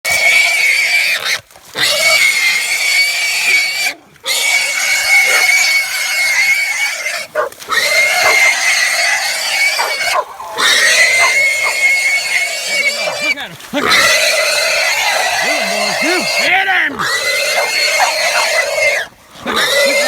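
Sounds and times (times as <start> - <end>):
hog squealing: 0.9 - 20.0.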